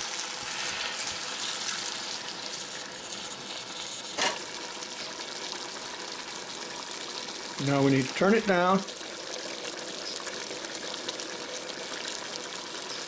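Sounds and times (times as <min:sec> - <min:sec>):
stew sizzling: 0:00.0 - 0:13.0
wine pouring into a pot: 0:00.0 - 0:13.0.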